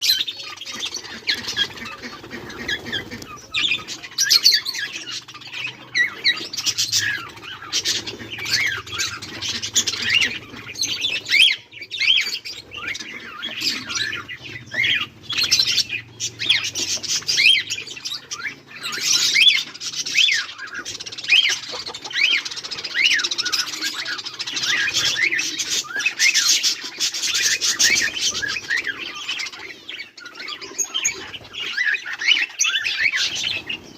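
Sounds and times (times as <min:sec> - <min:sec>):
budgerigars chirping: 0:00.0 - 0:33.9.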